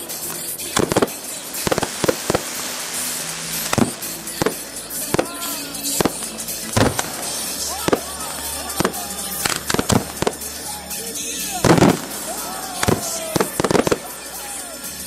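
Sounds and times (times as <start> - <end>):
firework shells bursting: 0.0 - 10.6, 11.6 - 14.4
firework hiss: 0.0 - 15.0.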